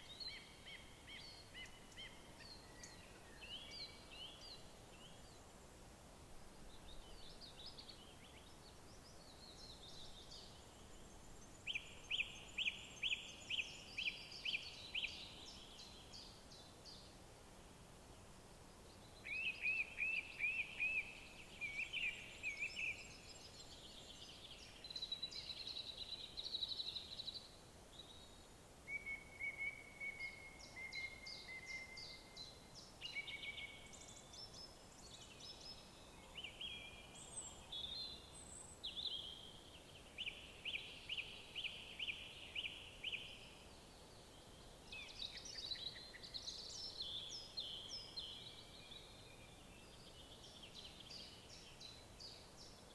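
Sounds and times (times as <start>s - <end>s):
songbirds singing: 0.0s - 5.8s, 6.6s - 17.2s, 18.1s - 52.9s.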